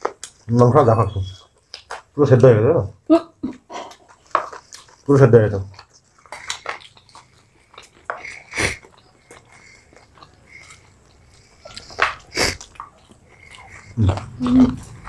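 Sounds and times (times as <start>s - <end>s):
biting and chewing fried chicken: 0.0s - 15.0s.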